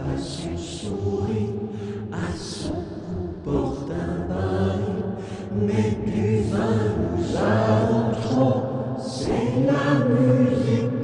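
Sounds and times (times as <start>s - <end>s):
voices singing nursery rhyme: 0.0s - 11.0s.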